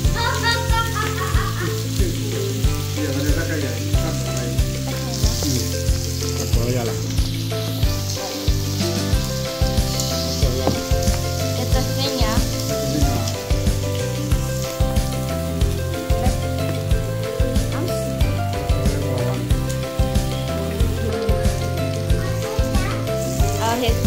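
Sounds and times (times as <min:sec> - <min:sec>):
background music with beat: 0:00.0 - 0:24.0
meat sizzling on grill pan: 0:00.0 - 0:24.0.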